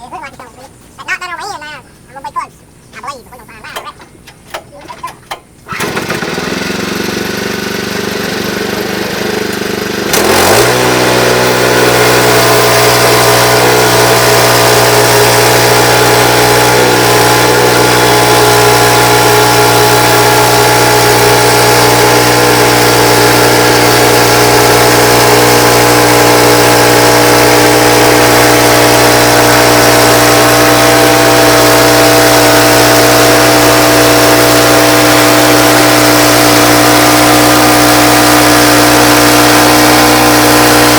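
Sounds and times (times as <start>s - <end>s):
engine revving up: 5.7s - 40.9s.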